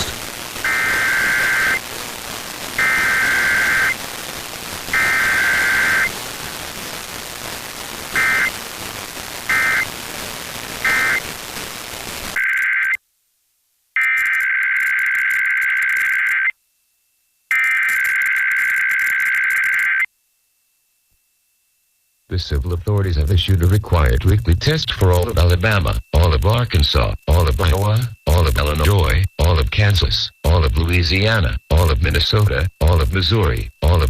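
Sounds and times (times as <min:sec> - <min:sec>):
radio static: 0:00.0 - 0:13.0, 0:14.0 - 0:16.5, 0:17.5 - 0:20.1, 0:22.3 - 0:34.0.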